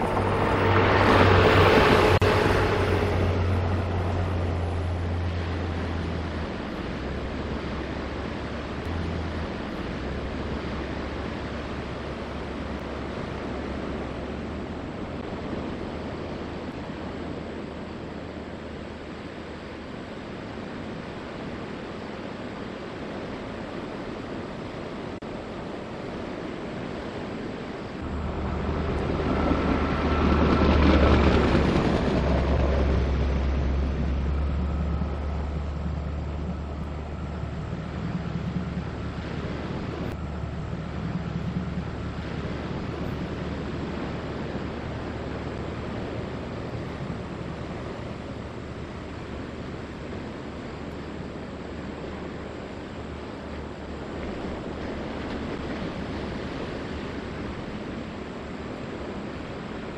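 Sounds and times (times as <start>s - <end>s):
low hum: 0.0s - 59.9s
passing rail vehicle: 0.0s - 59.9s
sea surf: 0.0s - 59.9s.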